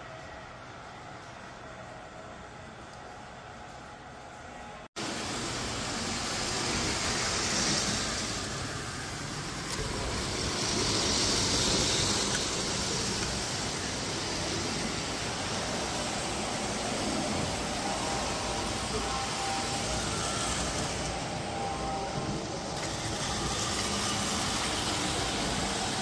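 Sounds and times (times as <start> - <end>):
model trains rolling rumble: 0.0 - 26.0.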